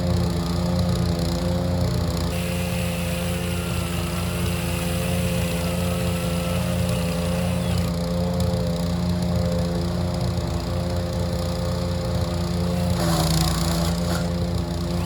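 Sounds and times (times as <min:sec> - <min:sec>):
wood chipper engine running: 0:00.0 - 0:15.0.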